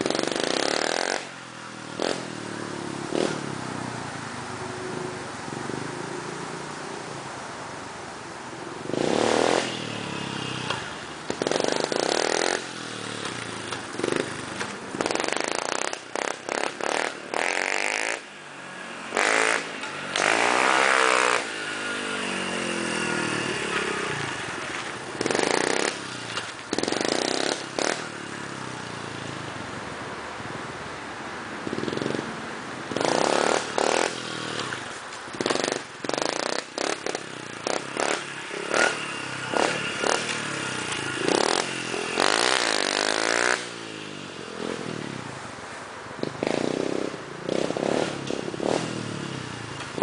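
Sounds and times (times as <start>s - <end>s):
dirt bike engine revving: 0.0s - 3.7s, 8.8s - 29.5s, 31.6s - 45.2s, 46.2s - 50.0s.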